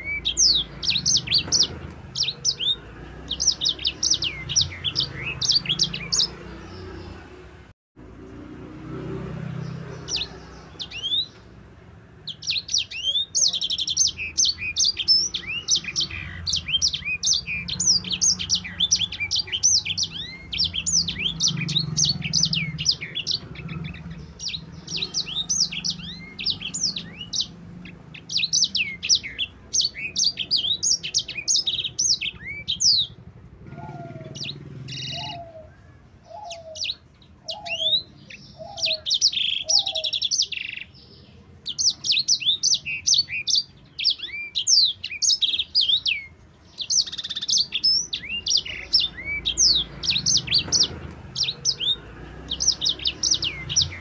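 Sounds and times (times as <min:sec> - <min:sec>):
bird twittering song: 0:00.0 - 0:07.7, 0:09.1 - 0:54.0.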